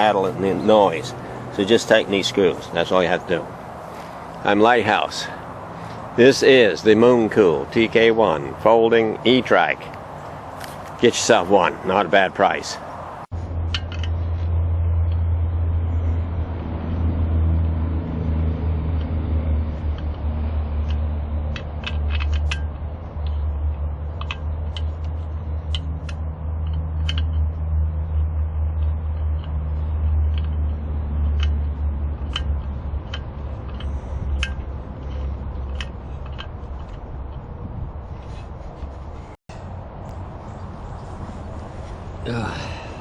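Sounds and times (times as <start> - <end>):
wind and rolling noise: 0.0 - 43.0.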